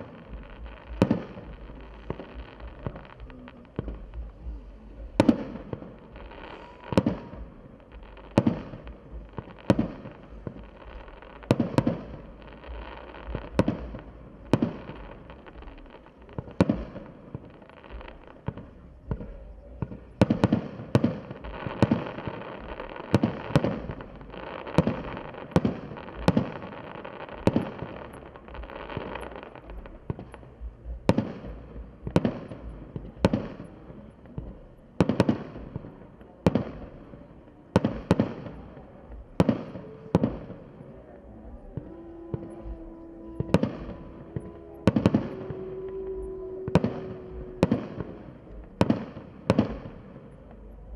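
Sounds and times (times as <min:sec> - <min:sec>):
fireworks crackling: 0:00.0 - 0:50.9.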